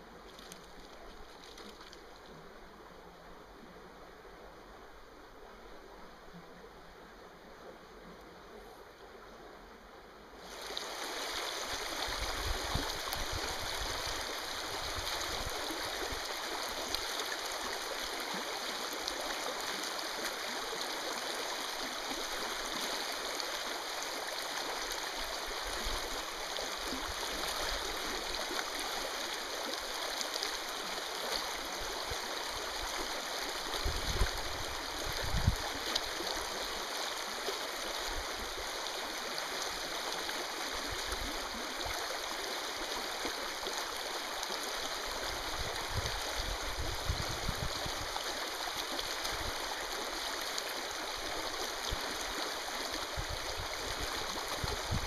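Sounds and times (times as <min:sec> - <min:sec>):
stream water rushing: 0:10.3 - 0:55.0.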